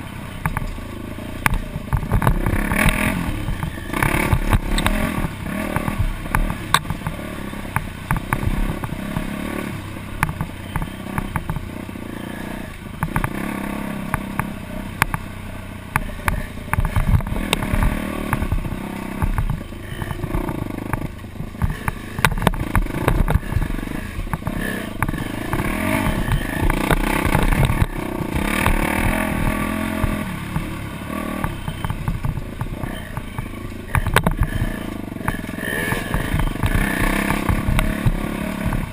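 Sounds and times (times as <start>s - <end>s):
bike knocks and rattles: 0.0s - 11.9s, 12.7s - 15.3s, 15.9s - 38.9s
dirt bike engine revving: 0.0s - 38.9s.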